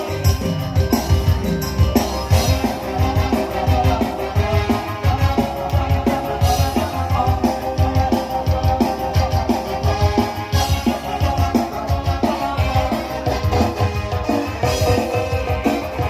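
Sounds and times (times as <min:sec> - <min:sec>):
band playing instrumental music: 0:00.0 - 0:16.0
drum kit beat: 0:00.0 - 0:16.0.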